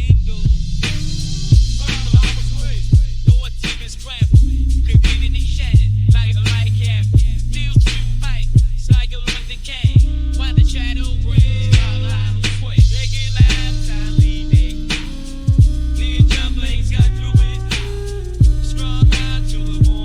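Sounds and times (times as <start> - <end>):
hip hop beat with bass: 0.0 - 20.0
person rapping: 0.0 - 20.0.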